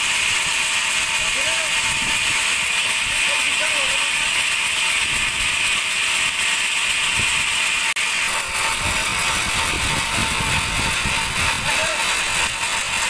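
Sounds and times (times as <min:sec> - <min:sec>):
band sawmill running: 0:00.0 - 0:13.0.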